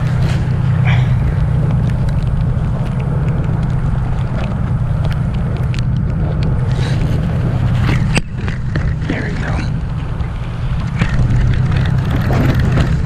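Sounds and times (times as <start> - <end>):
boat engine droning: 0.0 - 13.0
wind on microphone: 0.0 - 13.0.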